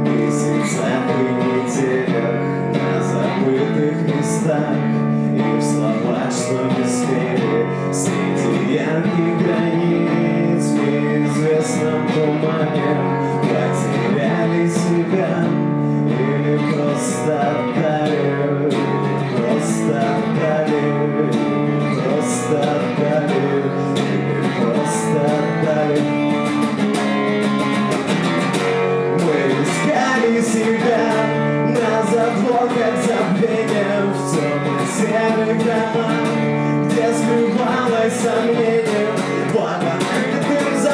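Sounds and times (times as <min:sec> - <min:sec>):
man singing: 0:00.0 - 0:40.9
strummed acoustic guitar: 0:00.0 - 0:40.9.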